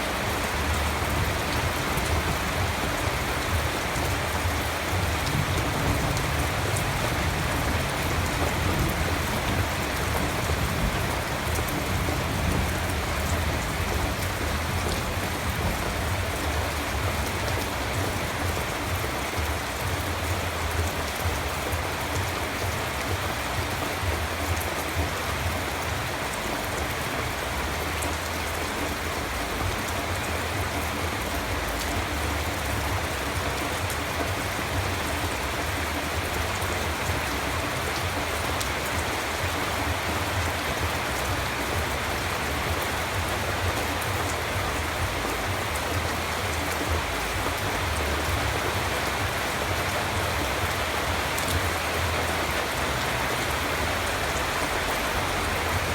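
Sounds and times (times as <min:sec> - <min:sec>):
steady rainfall hiss: 0:00.0 - 0:55.9.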